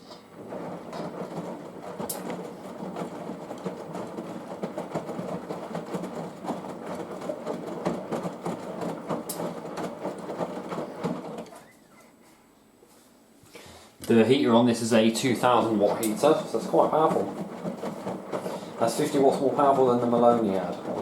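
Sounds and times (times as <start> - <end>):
washing machine drum tumbling laundry: 0.0 - 12.4, 14.0 - 21.0.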